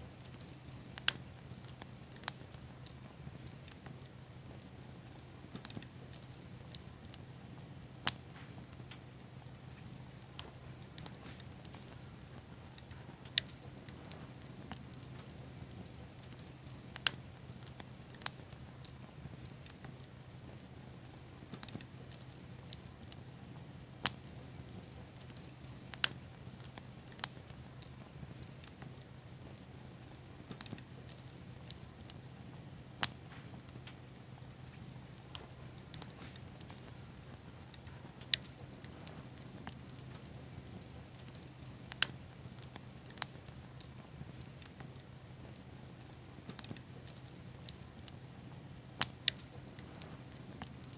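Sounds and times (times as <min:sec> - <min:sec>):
faint hiss and low hum: 0:00.0 - 0:50.9
fire crackling and popping: 0:00.0 - 0:50.9.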